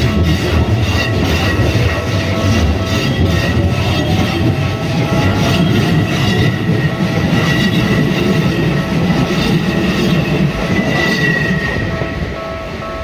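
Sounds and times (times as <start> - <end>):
crossing warning bell: 0.0 - 13.0
high wheel squeal: 0.0 - 13.0
train rumbling on rails: 0.0 - 13.0.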